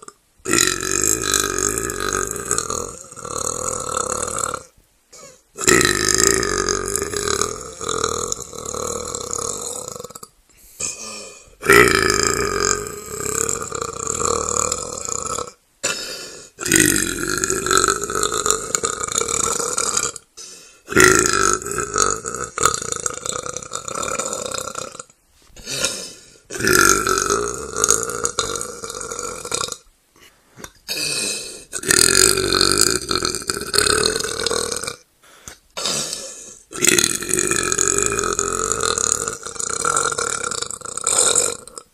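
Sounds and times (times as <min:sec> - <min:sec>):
long loud belches: 0:00.0 - 0:29.9, 0:30.6 - 0:35.1, 0:35.8 - 0:41.9.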